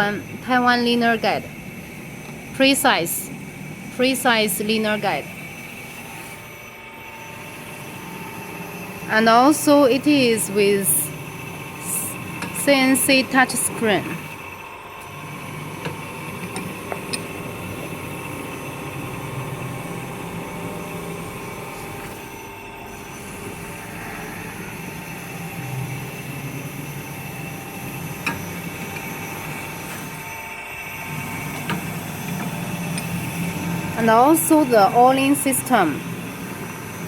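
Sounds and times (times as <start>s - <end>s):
grinding machine motor whine: 0.0s - 37.0s.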